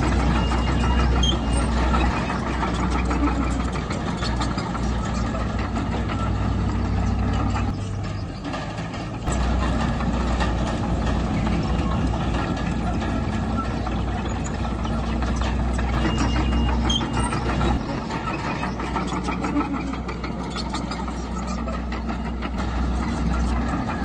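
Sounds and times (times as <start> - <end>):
heavy diesel engine under load: 0.0 - 24.0.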